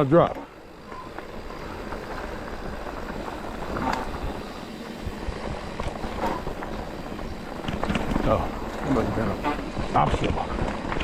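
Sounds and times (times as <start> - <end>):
bike knocking and rattling: 0.0 - 11.0
tyres rumbling over rock: 0.0 - 11.0
wind rushing over microphone: 0.0 - 11.0.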